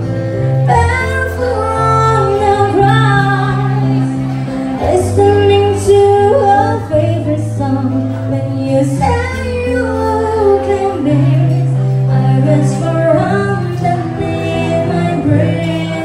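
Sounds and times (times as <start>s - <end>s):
acoustic guitar: 0.0s - 16.0s
bass: 0.0s - 16.0s
woman singing into microphone: 0.0s - 16.0s.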